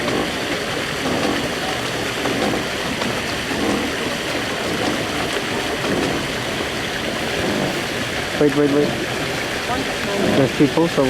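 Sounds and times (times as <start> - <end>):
paddle wheel splashing water: 0.0 - 11.0.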